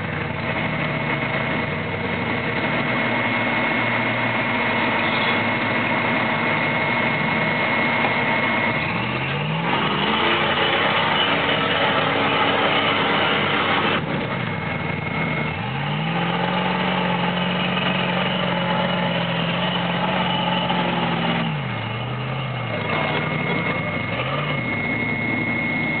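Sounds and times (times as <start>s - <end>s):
rock buggy engine revving: 0.0s - 26.0s
loud rushing noise: 2.7s - 26.0s.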